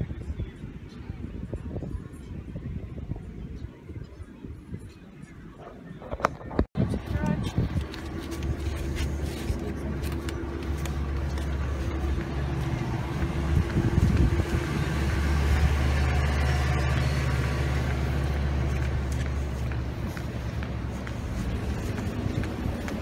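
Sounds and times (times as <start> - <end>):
street traffic: 0.0 - 23.0
vehicle engine rumble: 0.0 - 23.0.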